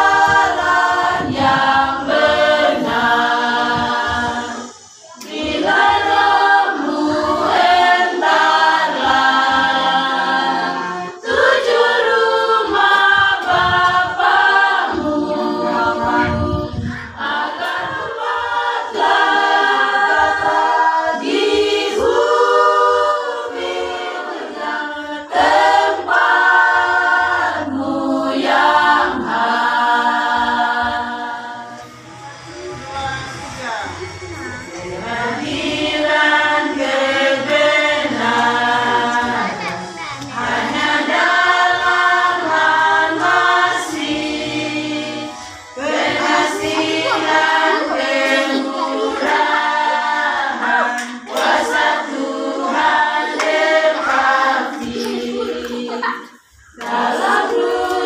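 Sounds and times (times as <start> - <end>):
women's choir singing a cappella: 0.0 - 33.0, 33.7 - 58.0.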